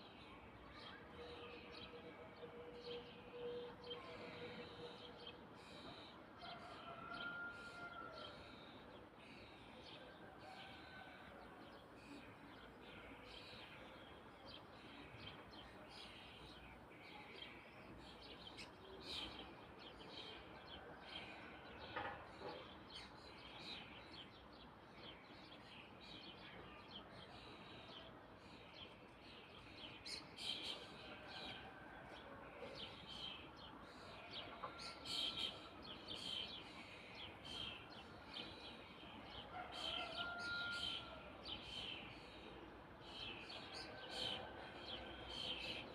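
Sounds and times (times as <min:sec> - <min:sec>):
faint steady background noise: 0:00.0 - 0:45.9.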